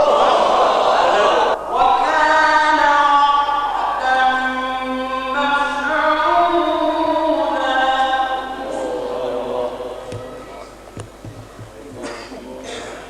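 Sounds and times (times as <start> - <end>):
man reciting melodically: 1.2 - 13.0.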